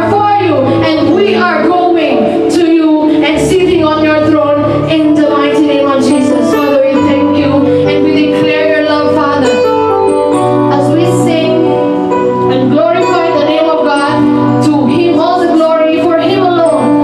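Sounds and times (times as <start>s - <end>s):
low bass: 0.0s - 17.0s
sustained keyboard chords: 0.0s - 17.0s.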